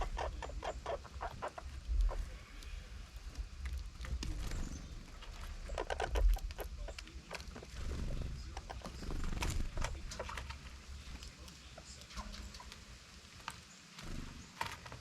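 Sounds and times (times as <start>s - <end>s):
squirrel chattering: 0.0s - 12.6s.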